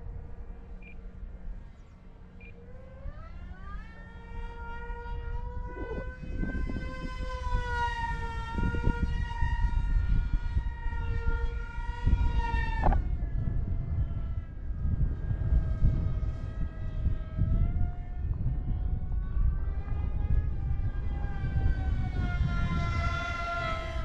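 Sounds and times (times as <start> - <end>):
electric motor and propeller whining: 0.0 - 24.0
wind buffeting microphone: 0.0 - 24.0.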